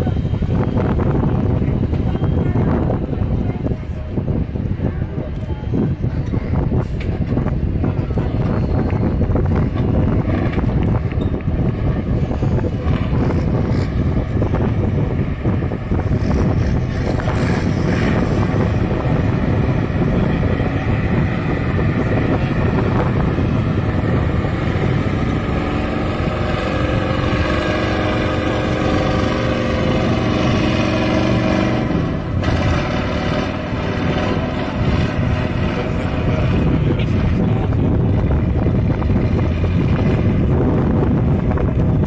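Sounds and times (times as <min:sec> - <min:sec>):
truck engine running under load: 0:00.0 - 0:42.0.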